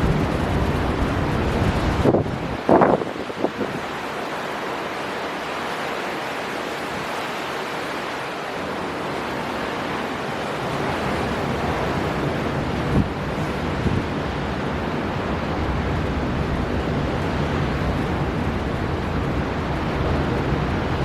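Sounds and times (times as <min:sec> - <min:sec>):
low wind buffet: 0:00.0 - 0:21.0
storm wind: 0:00.0 - 0:21.0
surf: 0:00.0 - 0:21.0.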